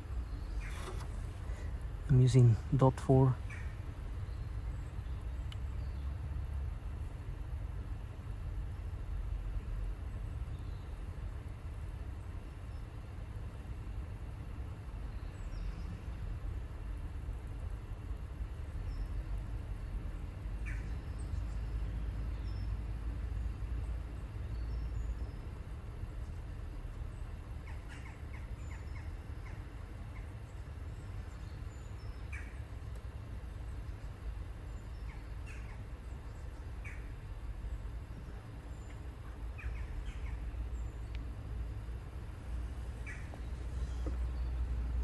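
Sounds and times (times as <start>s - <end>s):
small birds chirping: 0.0s - 6.8s, 9.9s - 45.0s
steady low rumble: 0.0s - 45.0s.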